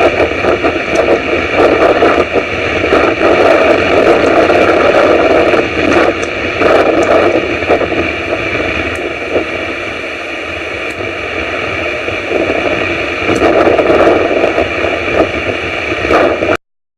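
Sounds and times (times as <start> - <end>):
storm wind and rain on microphone: 0.0 - 16.6.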